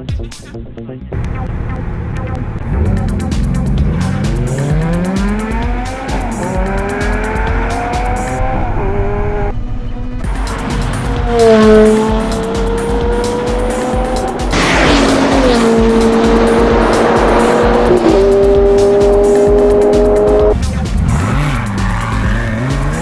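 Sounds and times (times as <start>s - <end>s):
car engines accelerating: 1.2s - 23.0s.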